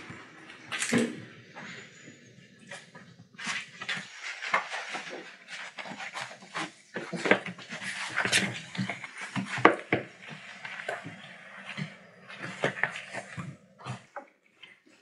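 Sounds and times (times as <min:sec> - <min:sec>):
puppies scuffling: 0:00.0 - 0:15.0.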